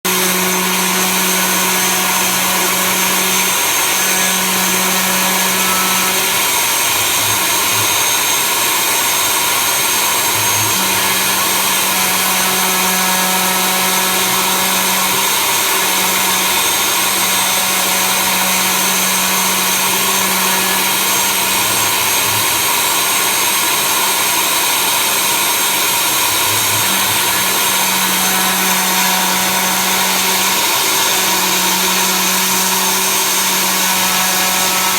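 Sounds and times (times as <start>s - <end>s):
machine motor whirring: 0.1s - 34.9s.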